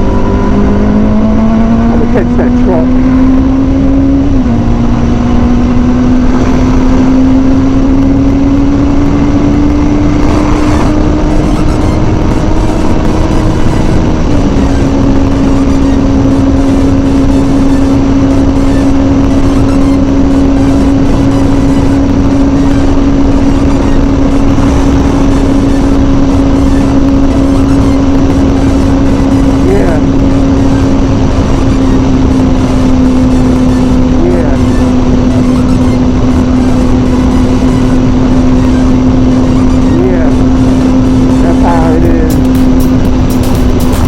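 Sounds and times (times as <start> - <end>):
motorcycle engine accelerating: 0.0 - 44.0
wind rush: 0.0 - 44.0.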